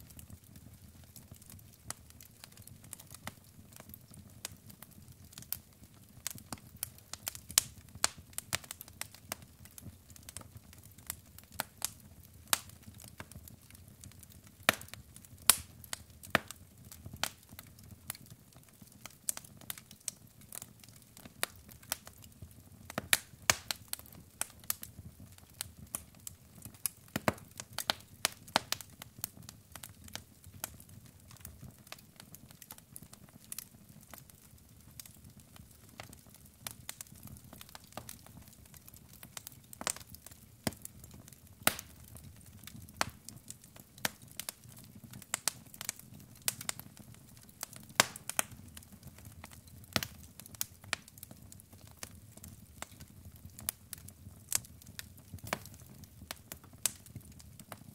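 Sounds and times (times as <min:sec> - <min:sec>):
burning wood crackling and popping: 0:00.0 - 0:57.9.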